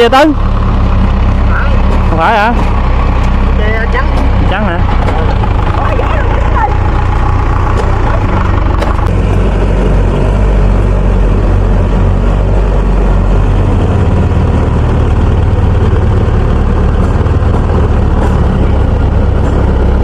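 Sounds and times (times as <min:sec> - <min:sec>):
combine harvester engine humming: 0:00.0 - 0:20.0.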